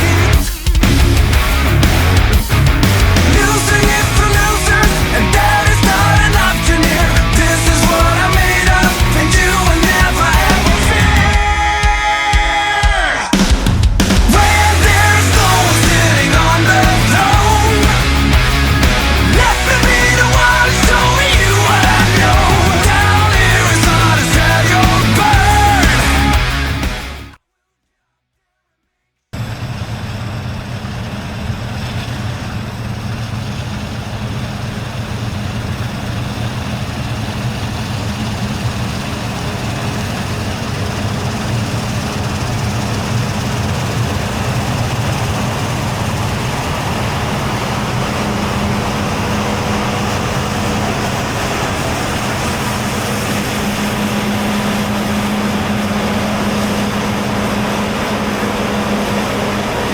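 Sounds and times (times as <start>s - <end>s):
diesel machinery engine drone: 0.0s - 27.4s, 29.4s - 59.9s.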